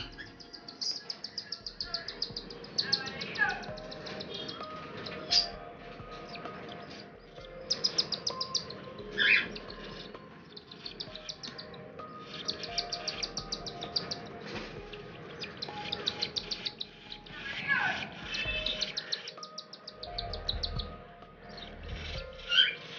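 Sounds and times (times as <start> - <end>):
aviary birds chirping: 0.0 - 22.9.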